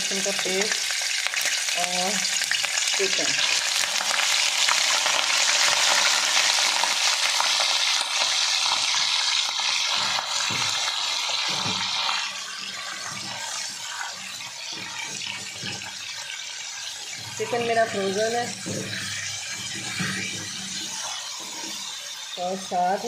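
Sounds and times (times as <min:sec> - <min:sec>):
chicken sizzling in hot oil: 0:00.0 - 0:23.0
spatula stirring in wok: 0:02.2 - 0:23.0.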